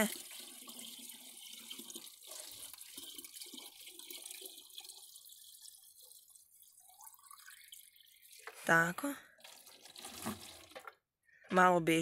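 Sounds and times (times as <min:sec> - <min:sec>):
water pouring into jug: 0:00.0 - 0:11.0.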